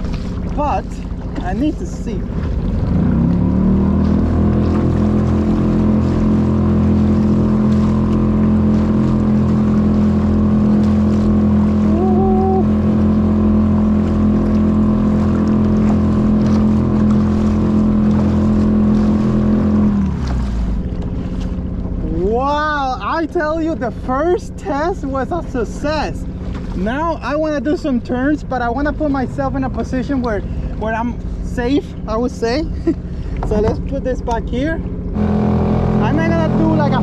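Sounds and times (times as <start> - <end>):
outboard motor running: 0.0 - 37.0
water rushing along hull: 0.0 - 37.0.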